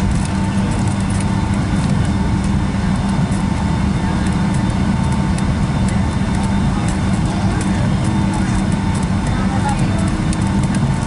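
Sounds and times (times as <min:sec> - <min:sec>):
jet engines humming at idle: 0:00.0 - 0:11.0
light rattling ticks in cabin: 0:00.1 - 0:11.0.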